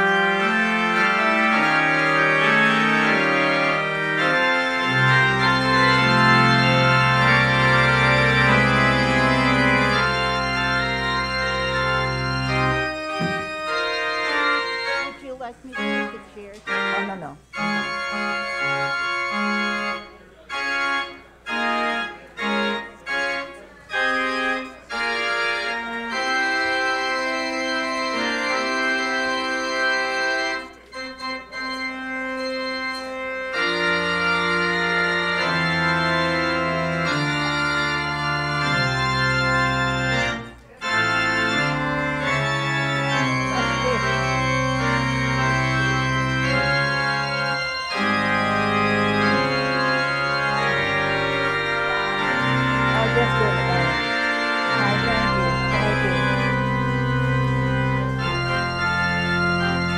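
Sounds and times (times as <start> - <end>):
church organ playing: 0.0 - 59.9.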